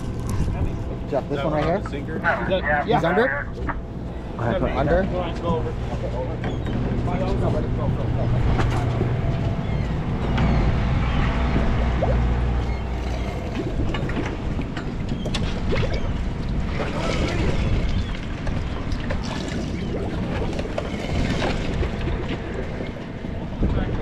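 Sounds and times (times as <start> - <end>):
wind on microphone: 0.0 - 1.5, 3.5 - 24.0
water noise: 0.0 - 24.0.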